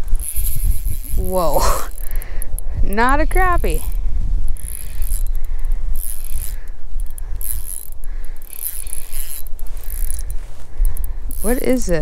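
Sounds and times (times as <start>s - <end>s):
fishing reel whirring and clicking: 0.0s - 12.0s.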